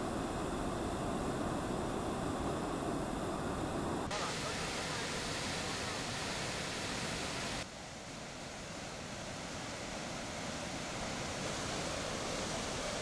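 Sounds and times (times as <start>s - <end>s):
floodwater rushing through spillway: 0.0s - 13.0s.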